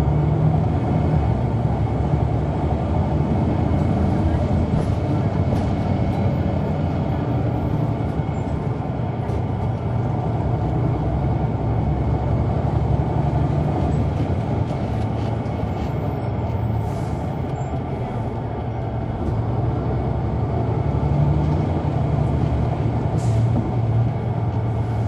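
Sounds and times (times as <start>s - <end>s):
bus diesel engine running: 0.0s - 25.0s.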